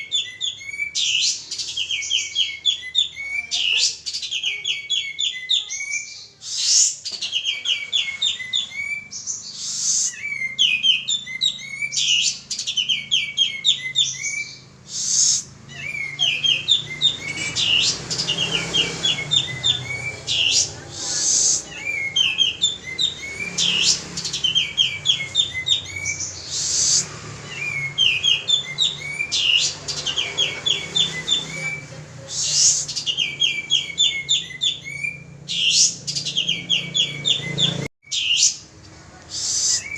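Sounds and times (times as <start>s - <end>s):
bird singing chattering notes: 0.0s - 38.7s.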